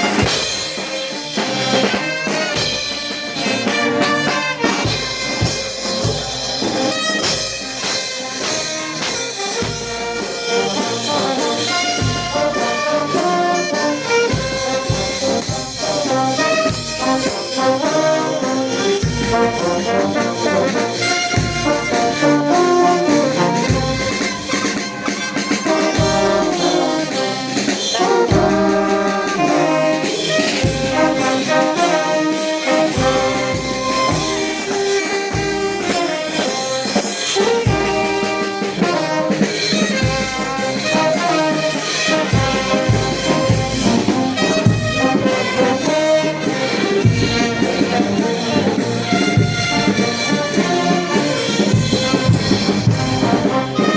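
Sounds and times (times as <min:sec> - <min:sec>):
brass band playing: 0:00.0 - 0:53.9
percussion beat: 0:00.0 - 0:53.9.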